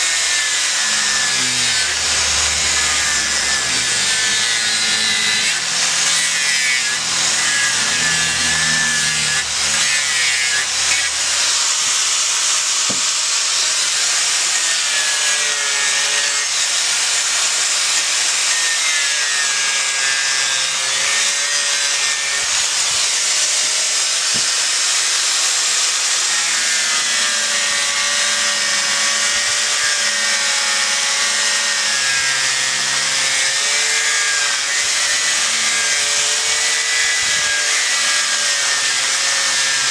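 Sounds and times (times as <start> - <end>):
angle grinder grinding wood: 0.0 - 39.9.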